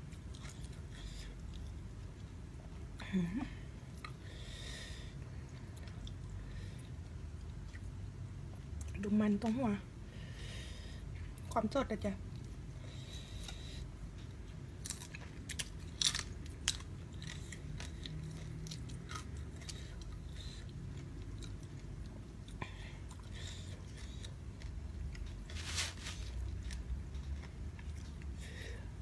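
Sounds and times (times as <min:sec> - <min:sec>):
chewing shrimp: 0:00.0 - 0:03.0, 0:05.2 - 0:09.0, 0:12.2 - 0:28.7.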